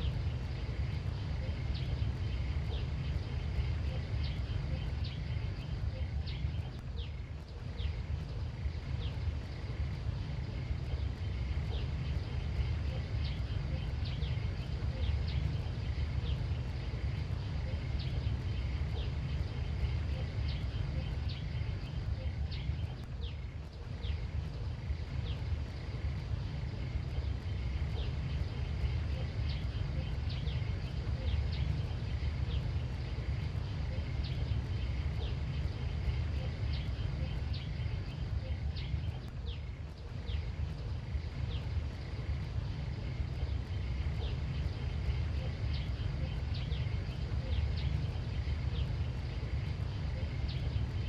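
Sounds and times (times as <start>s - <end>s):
faint high hum: 0.0s - 51.0s
steady low rumble: 0.0s - 51.0s.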